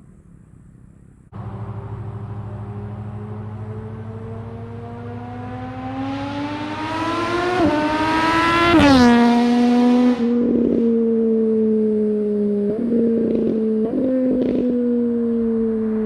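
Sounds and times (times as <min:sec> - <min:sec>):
motorcycle accelerating past: 0:01.4 - 0:16.0.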